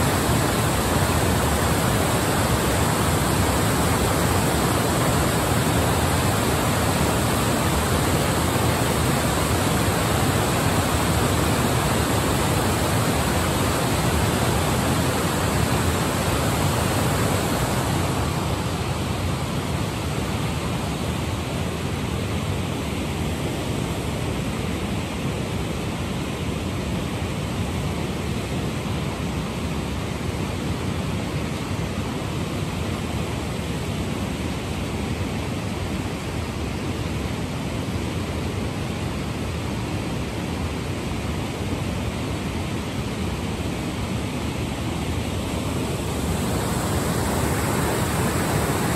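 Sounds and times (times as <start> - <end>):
water rushing over a weir: 0.0 - 48.9.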